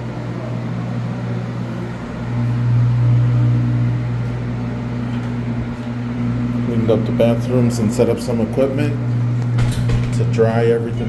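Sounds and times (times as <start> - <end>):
drying equipment humming: 0.0 - 11.0.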